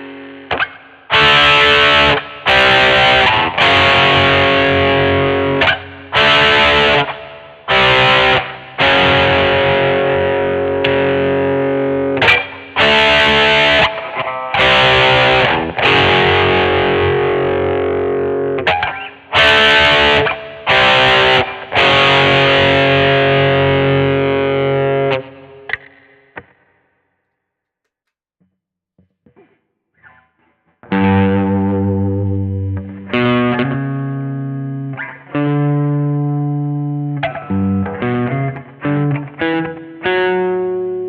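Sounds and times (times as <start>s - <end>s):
distorted electric guitar chords: 0.0s - 26.7s, 29.2s - 41.0s.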